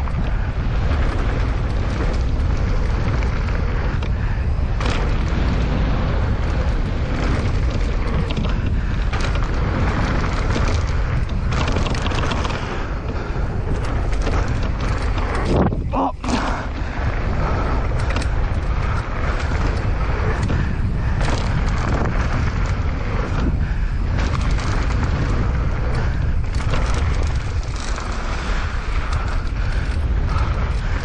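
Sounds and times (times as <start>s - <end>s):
bike clicks and rattles: 0.0s - 31.0s
tyre noise on dirt: 0.0s - 31.0s
wind rumbling on microphone: 0.0s - 31.0s.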